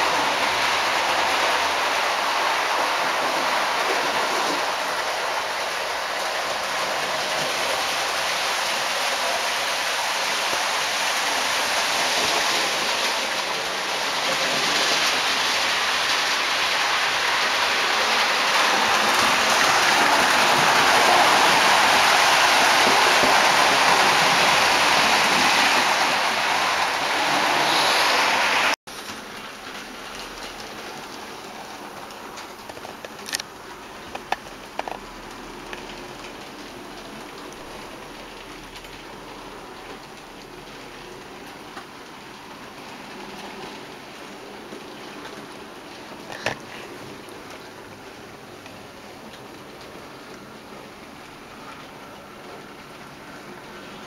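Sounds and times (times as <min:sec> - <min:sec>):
model trains rolling on track: 0:00.0 - 0:54.0.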